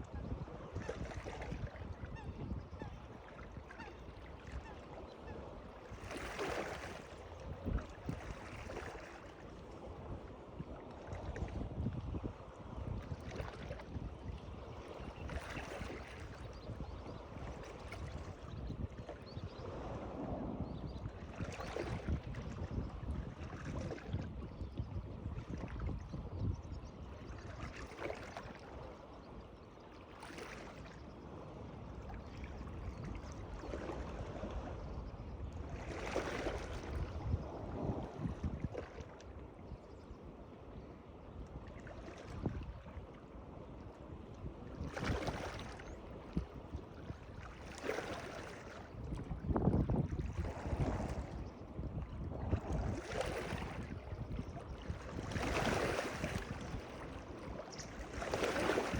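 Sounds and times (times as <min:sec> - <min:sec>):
water lapping and splashing: 0:00.0 - 0:58.9
water swishes: 0:00.0 - 0:58.9.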